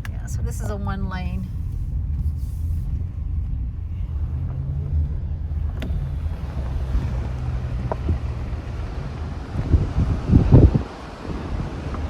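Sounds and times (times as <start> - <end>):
low hum: 0.0 - 11.2
engine and road rumble: 0.0 - 12.0.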